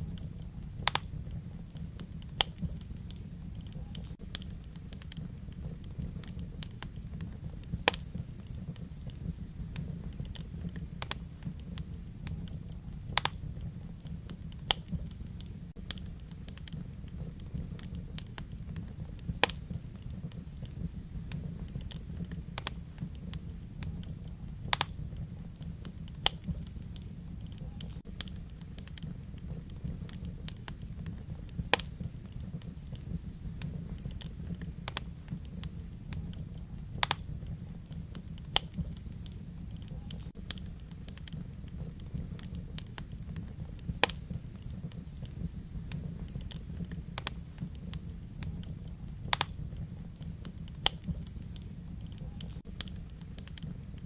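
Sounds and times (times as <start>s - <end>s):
fire flames rumbling: 0.0s - 54.0s
wood fire crackling and popping: 0.0s - 54.0s.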